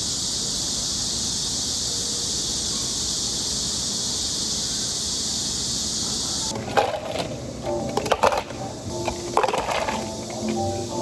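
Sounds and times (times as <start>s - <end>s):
cicada chorus buzzing: 0.0s - 11.0s.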